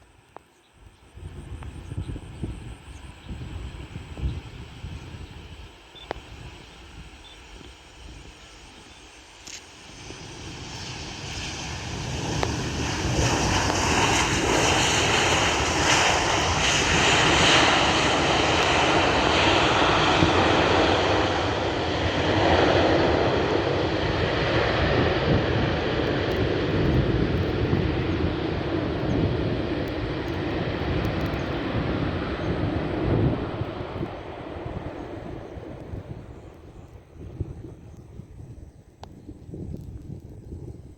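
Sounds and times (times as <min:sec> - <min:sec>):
jet airliner engines: 0:00.0 - 0:40.9.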